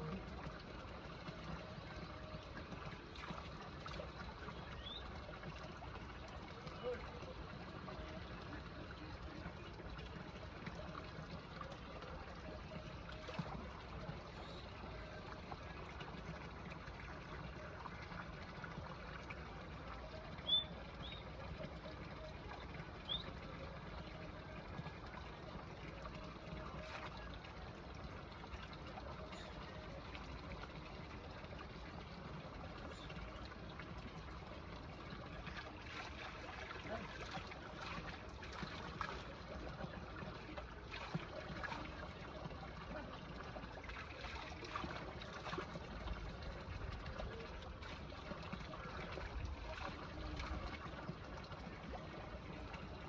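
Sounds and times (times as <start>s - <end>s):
trickle of running water: 0.0s - 53.0s.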